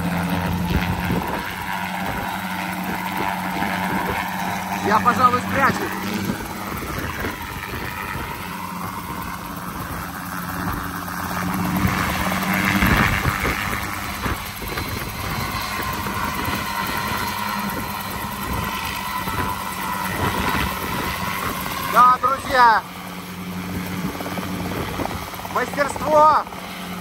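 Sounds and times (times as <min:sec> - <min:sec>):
helicopter engine: 0:00.0 - 0:27.0
rotor blades beating: 0:00.0 - 0:27.0.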